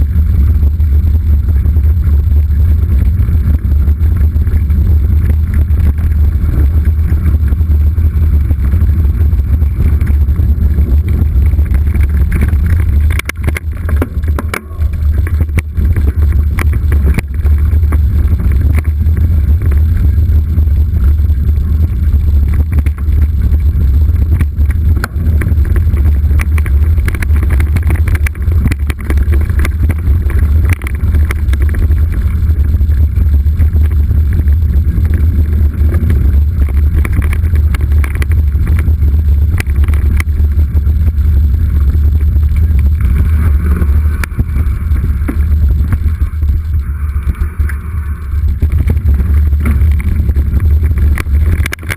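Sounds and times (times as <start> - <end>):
bike knocks and rattles: 0.0 - 51.9
wind buffeting microphone: 0.0 - 51.9.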